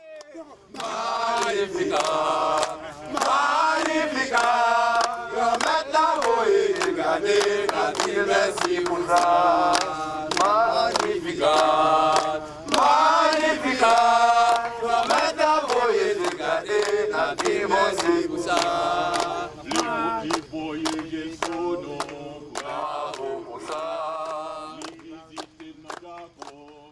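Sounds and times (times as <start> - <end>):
chanted choir-like singing: 0.0 - 26.9.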